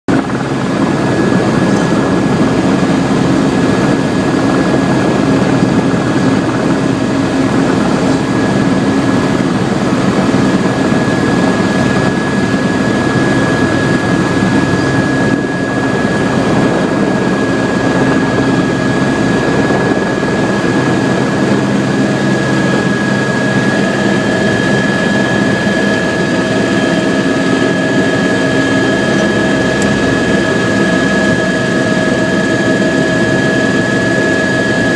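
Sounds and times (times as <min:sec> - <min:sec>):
helicopter engine and rotor: 0:00.1 - 0:34.9.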